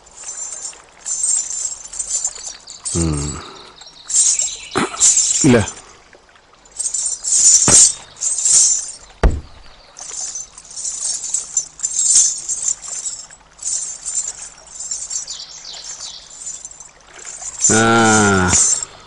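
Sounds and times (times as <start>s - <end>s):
ankle bells jingling: 0.0s - 5.9s, 6.6s - 19.0s.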